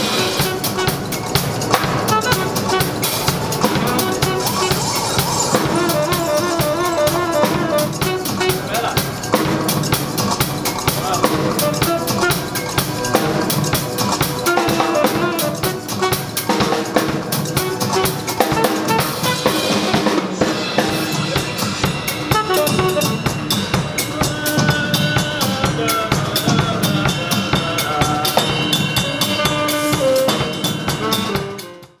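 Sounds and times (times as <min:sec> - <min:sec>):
jazz drum kit: 0:00.0 - 0:32.0
saxophone line: 0:00.0 - 0:32.0.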